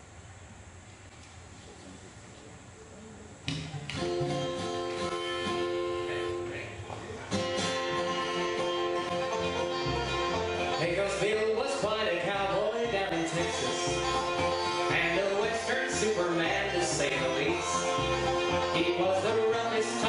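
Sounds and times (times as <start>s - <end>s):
acoustic bluegrass band: 3.5s - 20.0s
strummed guitar chords: 3.8s - 20.0s.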